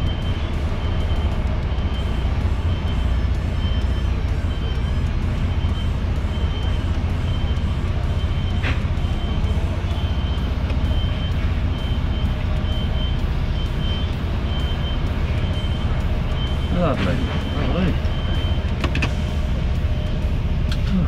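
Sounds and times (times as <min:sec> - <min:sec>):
diesel engine rumbling: 0:00.0 - 0:21.0
reversing alarm beeping: 0:00.0 - 0:21.0.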